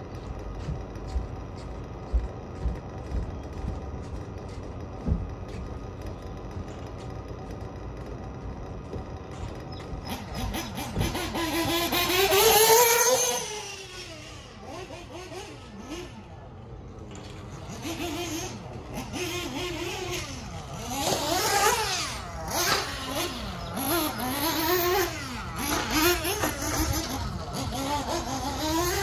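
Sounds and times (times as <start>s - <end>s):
rc buggy engine revving: 5.3s - 29.0s.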